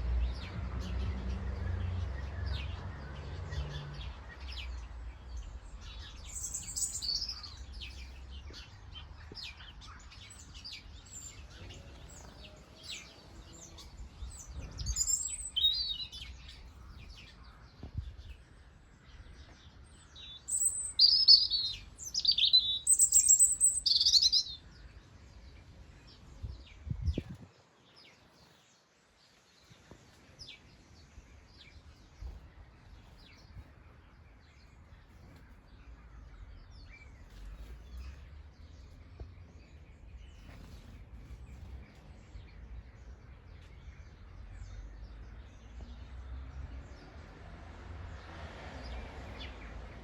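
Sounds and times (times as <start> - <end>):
birds chirping: 0.3 - 47.1.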